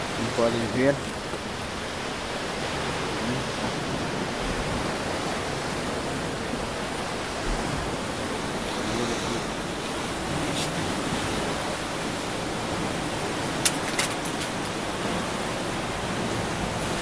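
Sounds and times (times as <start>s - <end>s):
surf on rocky shore: 0.0s - 17.0s.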